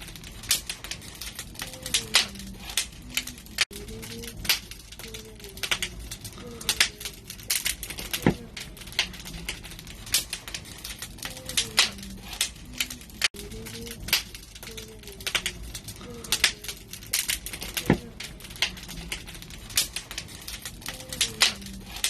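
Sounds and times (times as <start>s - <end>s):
barbecue fire crackling: 0.0s - 22.0s.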